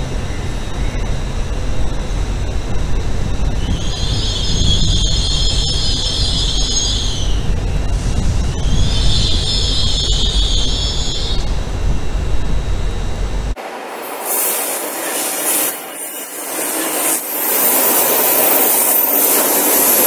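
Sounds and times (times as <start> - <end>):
high-pitched train squealing: 0.0 - 11.8, 14.0 - 20.0
train rolling rumble: 0.0 - 20.0.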